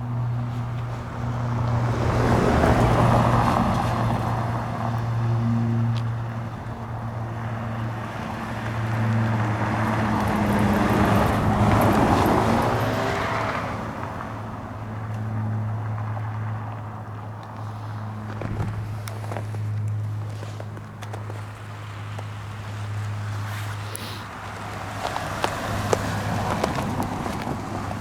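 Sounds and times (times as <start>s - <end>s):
low engine hum: 0.0s - 28.0s
motor vehicle passing: 0.0s - 28.0s.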